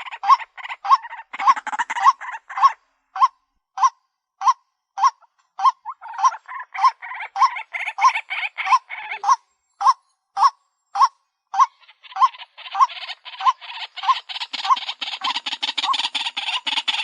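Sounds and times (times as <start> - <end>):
harsh bird calling: 0.0 - 3.3, 4.4 - 17.0.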